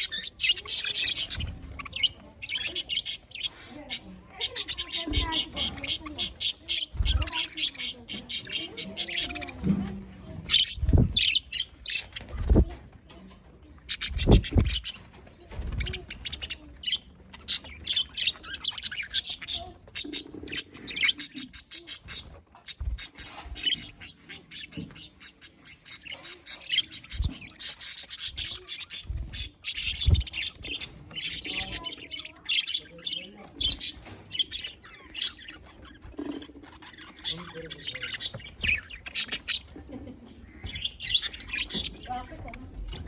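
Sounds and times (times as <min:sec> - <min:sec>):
budgerigars chirping: 0:00.0 - 0:12.7, 0:13.8 - 0:43.0.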